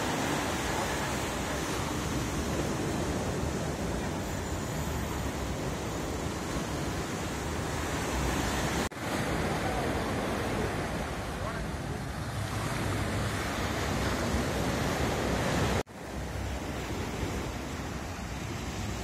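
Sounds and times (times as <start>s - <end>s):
surf breaking on beach: 0.0s - 19.0s.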